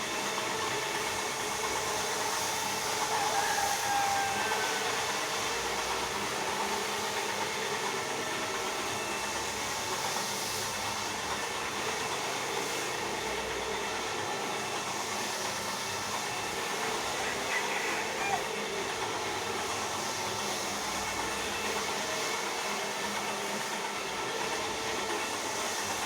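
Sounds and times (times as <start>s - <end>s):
floor polisher motor hum: 0.0s - 26.0s.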